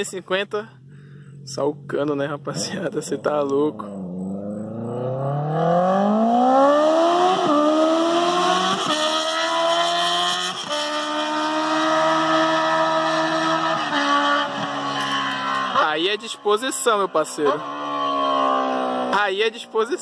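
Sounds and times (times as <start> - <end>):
motorcycle accelerating hard: 3.6 - 19.7.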